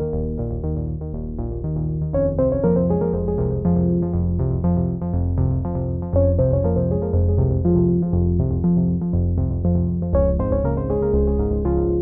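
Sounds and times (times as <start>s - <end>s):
music with keyboard-like notes: 0.0s - 12.0s.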